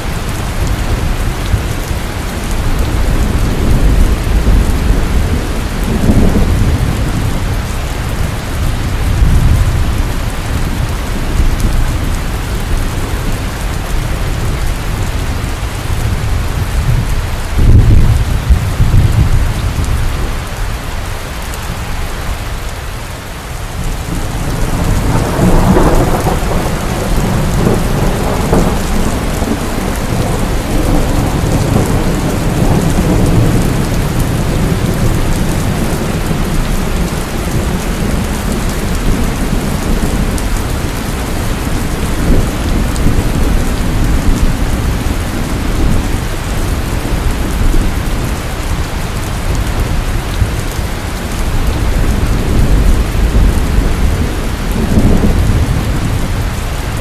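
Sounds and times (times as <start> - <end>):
thunder rumbling: 0.0 - 20.8, 23.6 - 57.0
heavy rain pouring: 0.0 - 57.0.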